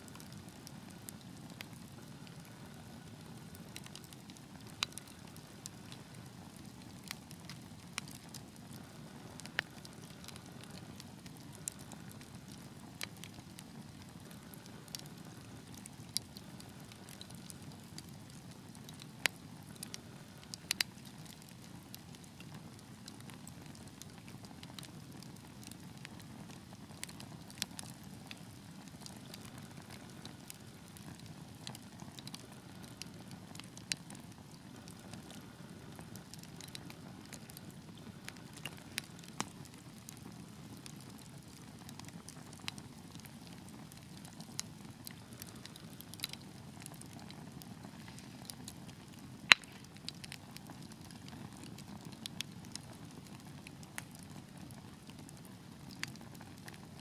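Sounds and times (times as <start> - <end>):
fire pops and snaps: 0.0 - 56.9
wood fire crackling: 0.0 - 57.0.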